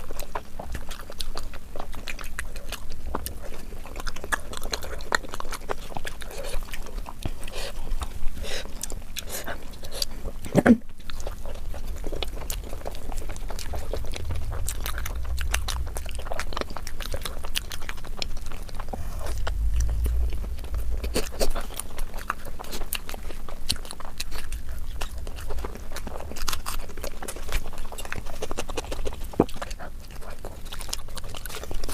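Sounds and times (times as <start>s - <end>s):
chewing and mouth smacks: 0.0s - 31.9s.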